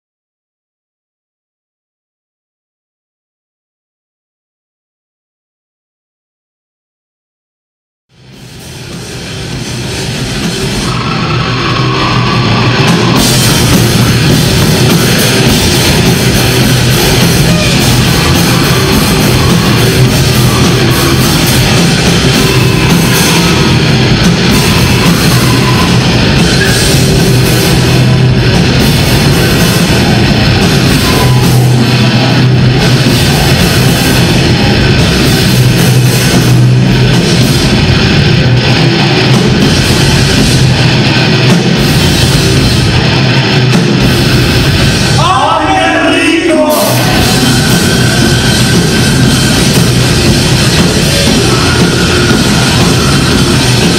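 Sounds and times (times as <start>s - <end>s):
heavy metal band playing live: 8.2s - 53.9s.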